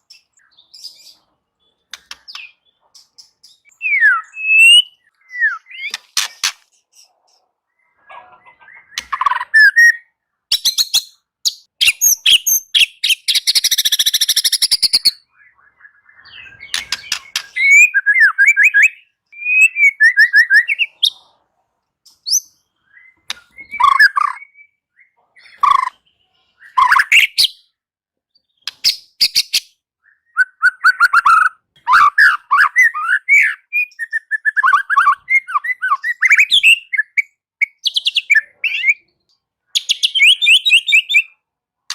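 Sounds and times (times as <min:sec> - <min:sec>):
bird singing whistled notes: 0:00.0 - 0:06.0, 0:08.6 - 0:21.2, 0:22.2 - 0:39.1, 0:39.8 - 0:41.4.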